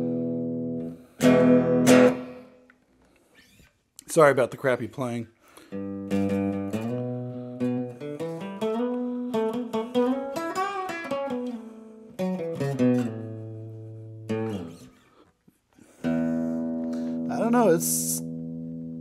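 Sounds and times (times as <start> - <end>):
guitar with reverb: 0.0 - 3.7, 5.5 - 19.0.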